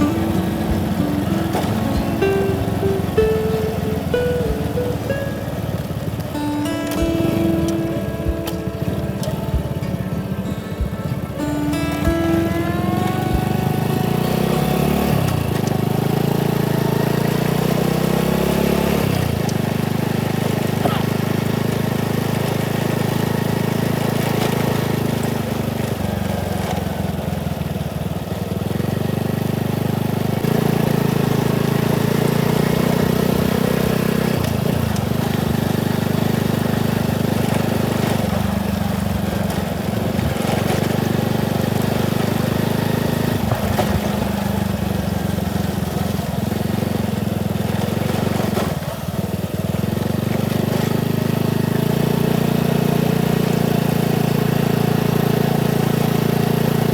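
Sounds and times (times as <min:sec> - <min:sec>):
small motorcycle engine revving: 0:04.9 - 0:56.9.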